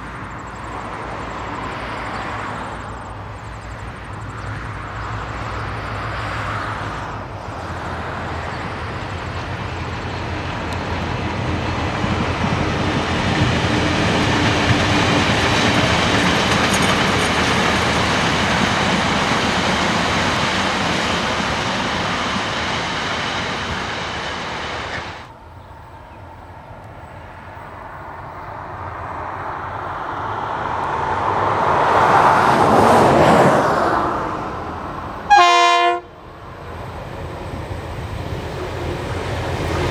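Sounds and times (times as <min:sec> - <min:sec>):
diesel locomotive engines running: 0:00.0 - 0:39.9
train approaching: 0:00.0 - 0:39.9
train wheels on rails: 0:00.0 - 0:39.9.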